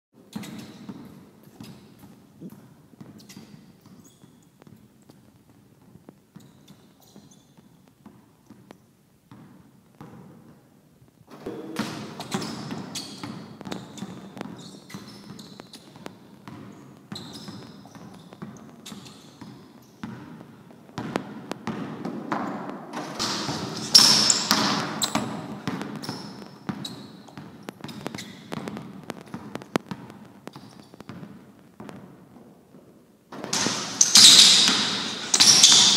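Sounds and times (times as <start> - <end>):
basketball bouncing on gym floor: 0.3 - 10.7, 11.3 - 35.9.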